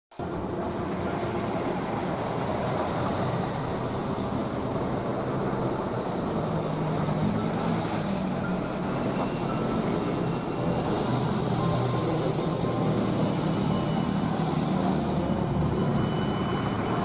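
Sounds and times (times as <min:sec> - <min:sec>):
aircraft engine noise: 0:00.1 - 0:17.0.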